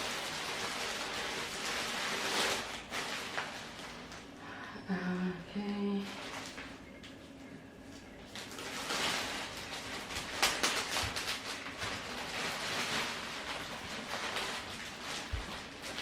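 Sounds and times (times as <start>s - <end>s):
packing material rustling: 0.0s - 4.4s, 6.0s - 7.0s, 8.3s - 16.0s.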